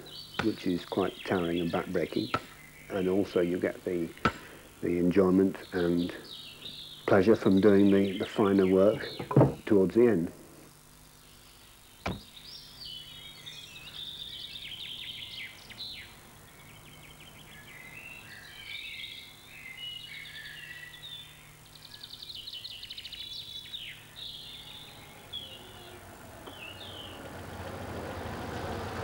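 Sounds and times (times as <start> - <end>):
birds singing and trilling: 0.0 - 10.2, 11.0 - 29.0
faint low hum: 0.0 - 29.0.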